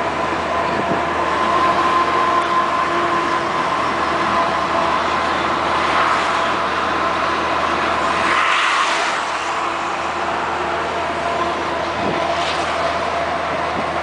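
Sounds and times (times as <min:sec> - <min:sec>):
constant whine: 0:00.0 - 0:14.0
diesel engine drone: 0:00.0 - 0:14.0
tyre and road noise: 0:00.0 - 0:14.0.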